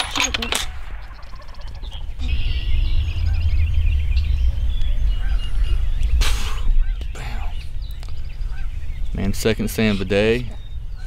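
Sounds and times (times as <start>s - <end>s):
small birds chirping: 0.0s - 11.0s
wind buffeting microphone: 0.0s - 11.0s.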